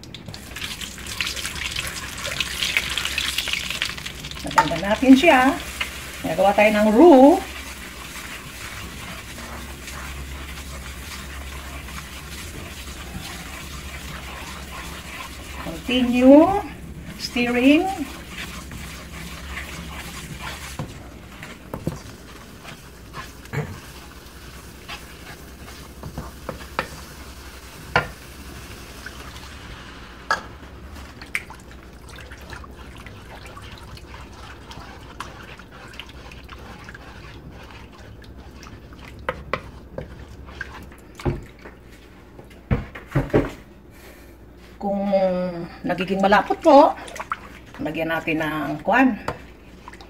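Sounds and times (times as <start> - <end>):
roux sizzling in a pan: 0.0 - 42.4.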